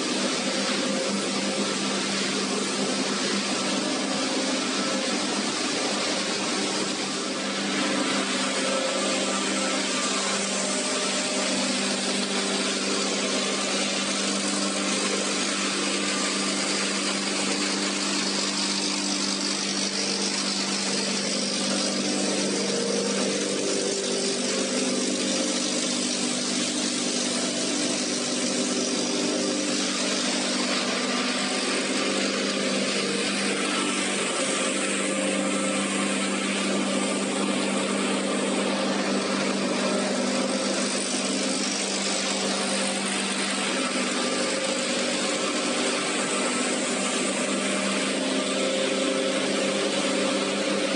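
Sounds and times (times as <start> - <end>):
low machine hum: 0.0 - 50.6
washing line machinery running: 0.0 - 50.9.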